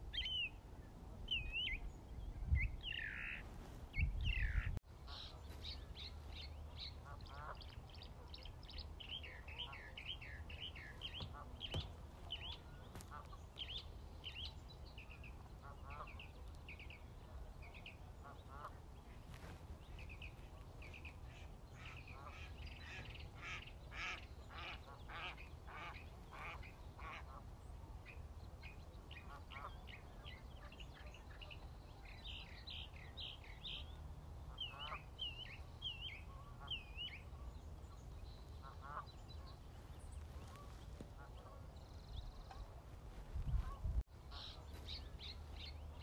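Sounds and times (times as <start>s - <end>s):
birds calling: 0.0s - 46.0s.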